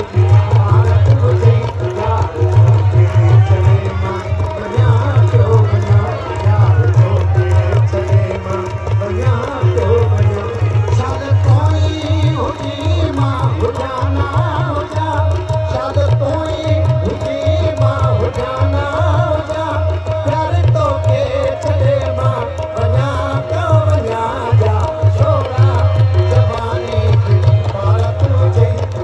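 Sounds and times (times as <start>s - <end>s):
hand drumming: 0.0s - 29.0s.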